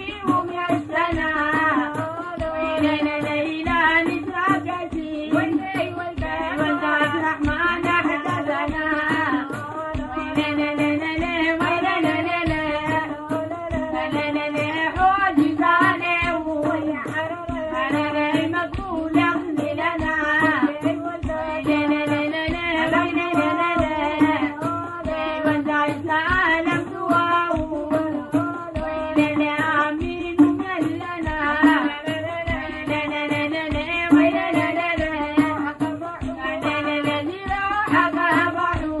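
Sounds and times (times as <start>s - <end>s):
hand drum beat: 0.0s - 39.0s
women singing: 0.0s - 39.0s.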